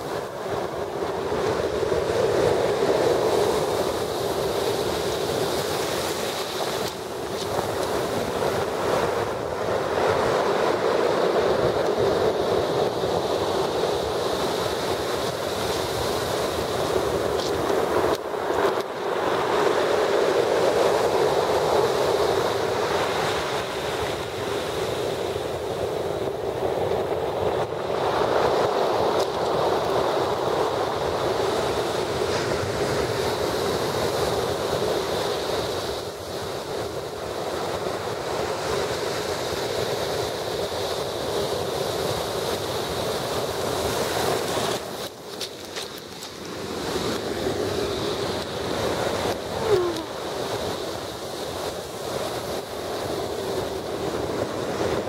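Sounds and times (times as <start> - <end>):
waves breaking on pebble shore: 0.0 - 55.0.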